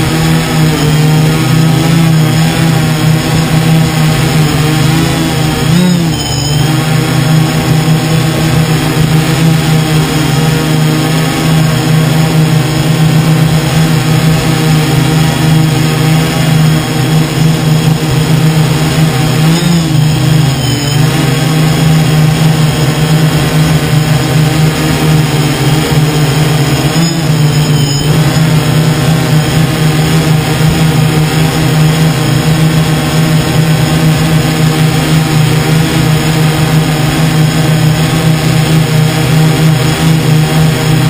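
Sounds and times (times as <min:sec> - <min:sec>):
drone propellers humming: 0:00.0 - 0:41.0.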